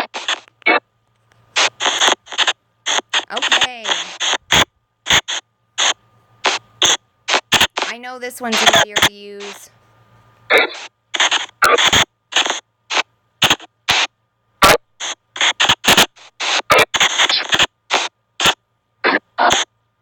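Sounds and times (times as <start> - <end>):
choppy static bursts: 0.0 - 9.7, 10.5 - 19.7.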